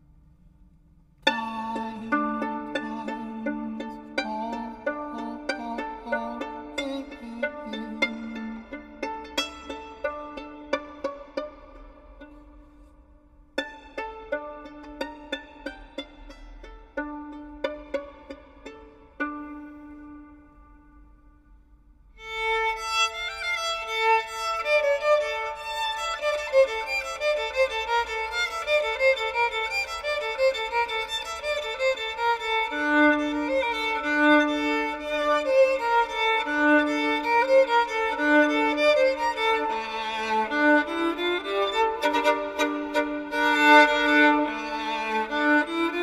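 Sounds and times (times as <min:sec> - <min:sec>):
violin-led instrumental music: 0:01.2 - 0:21.5, 0:22.1 - 0:46.0.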